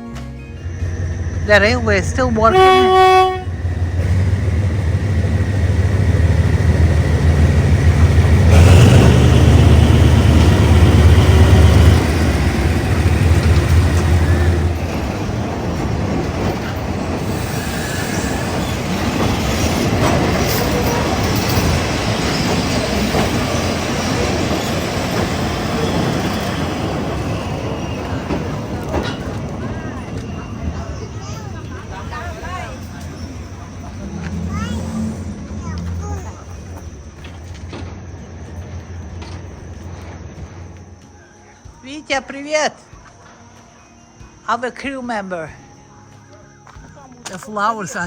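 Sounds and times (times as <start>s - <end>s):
heavy train engine drone: 0.0s - 45.0s
carriages rattling on track: 0.6s - 41.1s.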